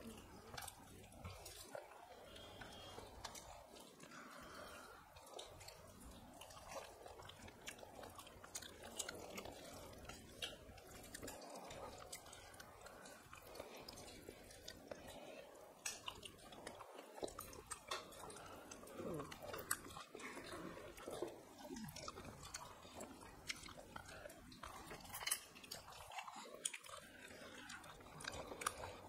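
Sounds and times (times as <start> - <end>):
chewing and mouth smacking: 0.0 - 29.0.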